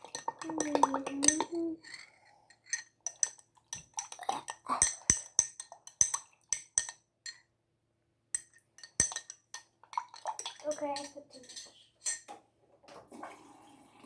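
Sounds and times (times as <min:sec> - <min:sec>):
spoon clinking against glass: 0:00.0 - 0:07.4, 0:08.4 - 0:12.3.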